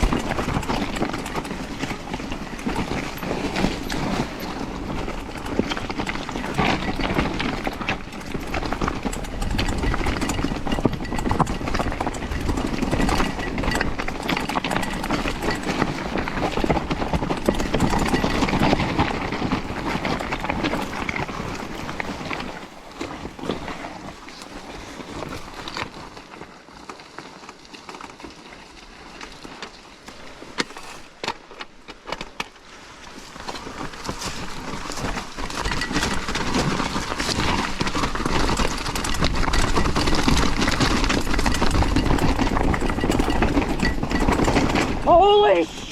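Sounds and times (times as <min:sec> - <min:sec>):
bike rattling over rough ground: 0:00.0 - 0:45.9.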